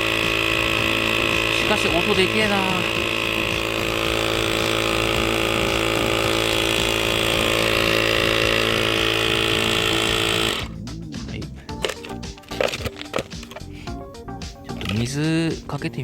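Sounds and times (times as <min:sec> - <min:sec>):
electric air pump running: 0:00.0 - 0:11.1, 0:11.7 - 0:15.6.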